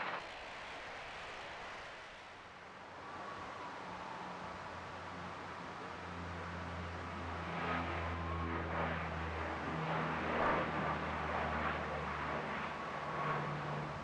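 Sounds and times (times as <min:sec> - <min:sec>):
turboprop engines at takeoff: 0:00.0 - 0:14.0.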